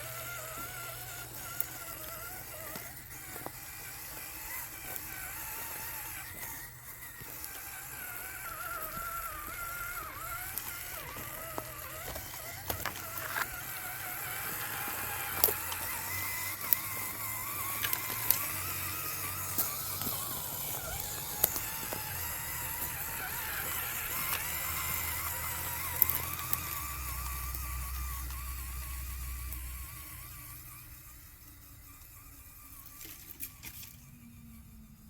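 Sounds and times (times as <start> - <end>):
electric motor and gears whining: 0.0 - 35.0.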